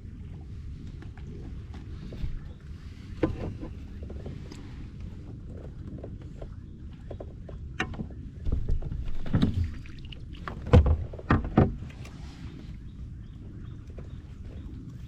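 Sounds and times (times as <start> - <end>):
low rumbling handling noise: 0.0 - 15.0.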